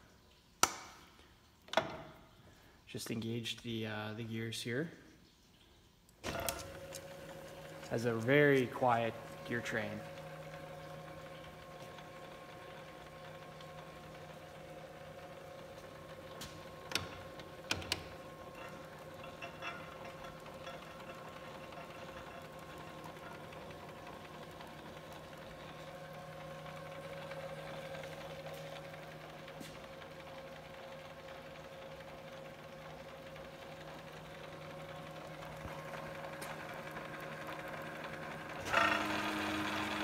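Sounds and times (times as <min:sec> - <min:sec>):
metal lathe humming and whining: 0:06.5 - 0:40.0.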